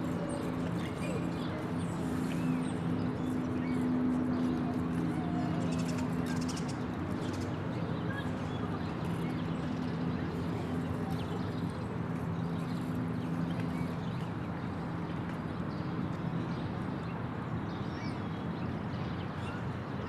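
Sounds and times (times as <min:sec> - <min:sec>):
constant low hum: 0:00.0 - 0:20.0.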